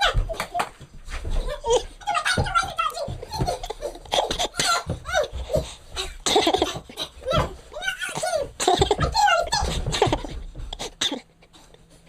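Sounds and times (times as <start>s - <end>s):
people talking: 0.0s - 10.4s.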